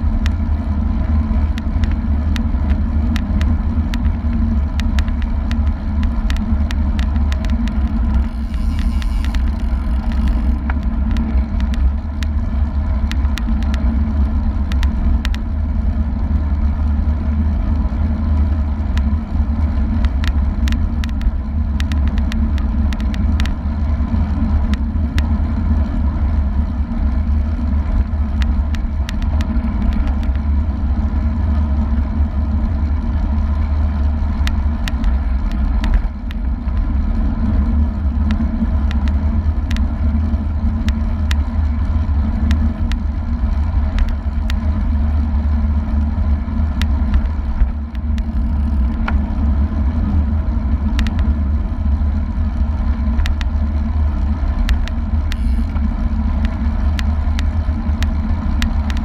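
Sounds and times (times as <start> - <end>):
road and tyre noise: 0.0 - 59.0.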